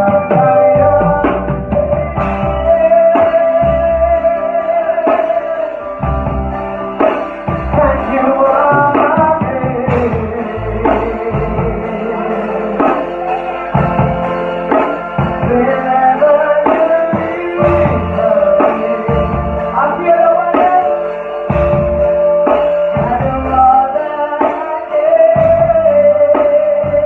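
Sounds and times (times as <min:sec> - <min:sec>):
electric bass guitar line: 0:00.0 - 0:27.0
person singing: 0:00.0 - 0:27.0
steady beat: 0:00.0 - 0:27.0.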